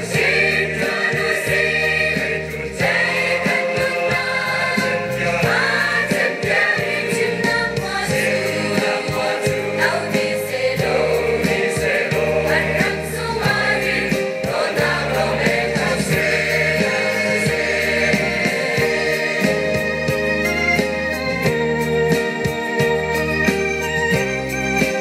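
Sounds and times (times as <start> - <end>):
choir singing a hymn: 0.0 - 21.1
keyboard accompaniment: 0.0 - 25.0.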